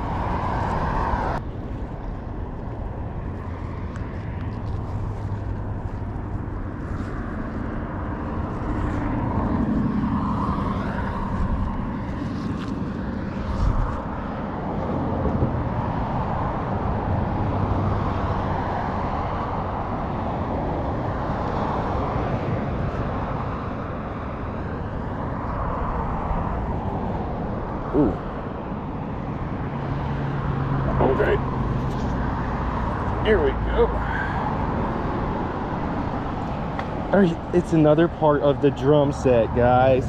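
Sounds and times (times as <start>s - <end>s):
passing vehicle engines: 0.0s - 40.0s
steady outdoor rumble: 0.0s - 40.0s.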